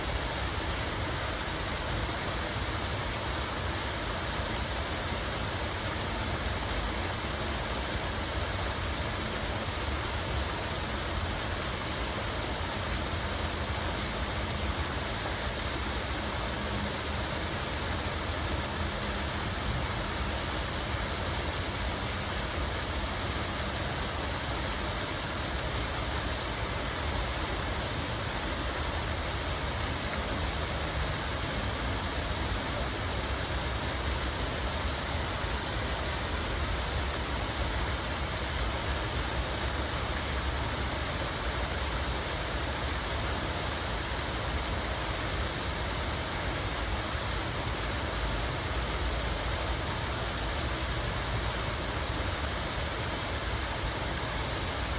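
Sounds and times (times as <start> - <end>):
falling water rushing: 0.0 - 54.9.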